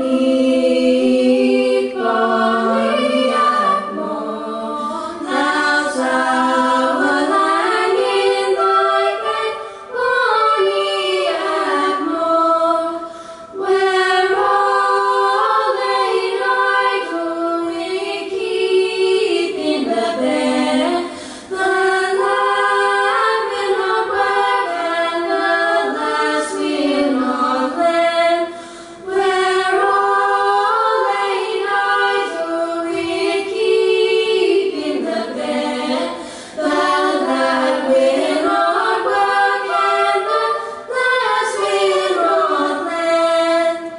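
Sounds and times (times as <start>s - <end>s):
girls singing together: 0.0s - 43.9s.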